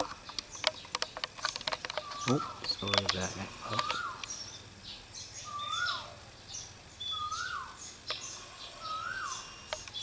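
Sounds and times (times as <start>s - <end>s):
higher bird chirps: 0.0s - 10.0s.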